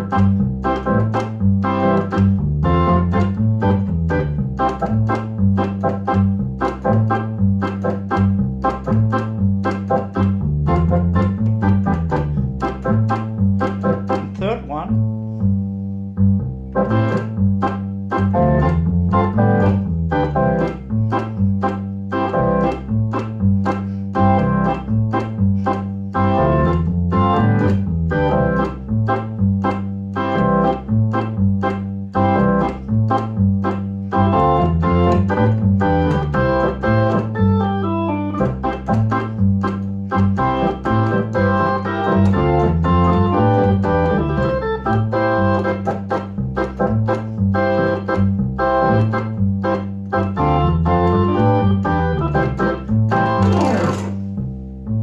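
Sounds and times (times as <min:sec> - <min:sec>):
electric organ ska chords: 0:00.0 - 0:15.5, 0:16.2 - 0:55.0
low bass line: 0:00.0 - 0:55.0.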